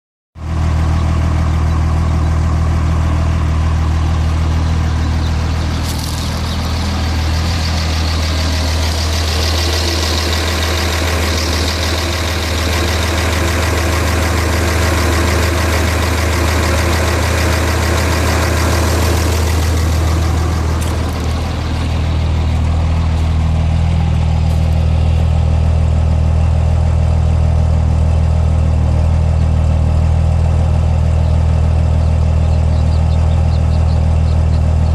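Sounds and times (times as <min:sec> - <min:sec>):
truck engine idling: 0:00.4 - 0:34.9.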